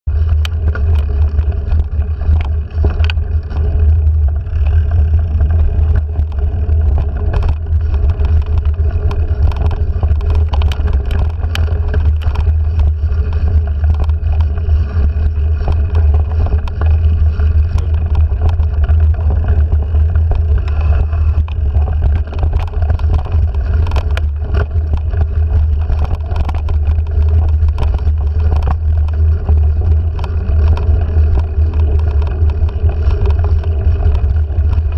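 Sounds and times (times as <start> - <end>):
low wind rumble: 0.0 - 34.9
bike rattling and knocking: 0.1 - 34.9.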